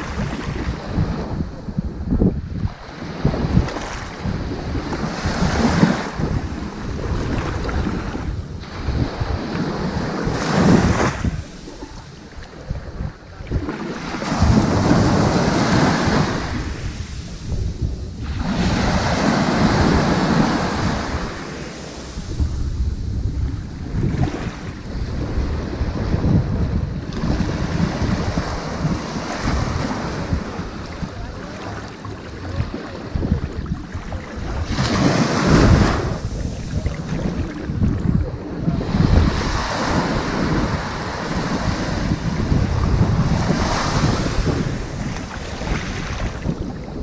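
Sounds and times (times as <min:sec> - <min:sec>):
ocean waves breaking on sand: 0:00.0 - 0:47.0.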